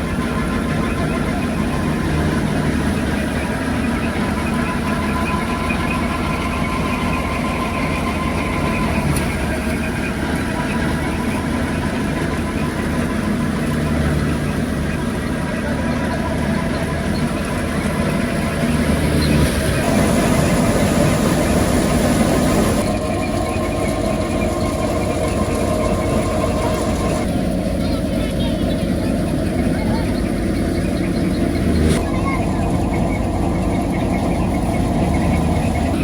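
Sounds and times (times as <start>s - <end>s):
machine engine humming: 0.0s - 36.0s.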